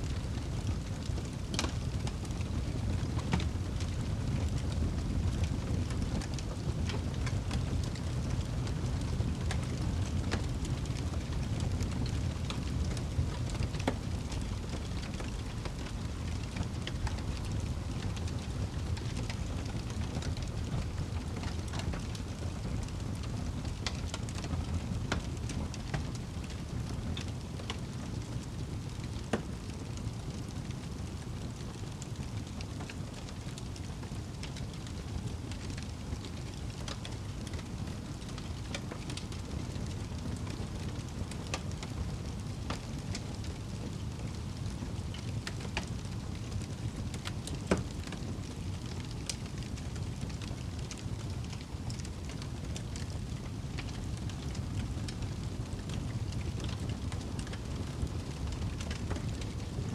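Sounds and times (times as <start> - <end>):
fire crackles and pops: 0.0 - 59.9
wood fire burning: 0.0 - 59.9.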